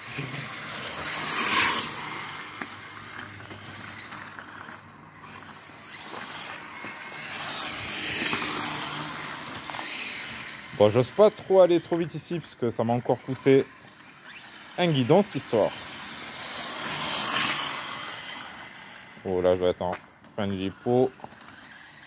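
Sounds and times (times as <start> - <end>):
electric toy motorbike motor: 0.0 - 22.0
tyres on gravel: 0.0 - 22.0.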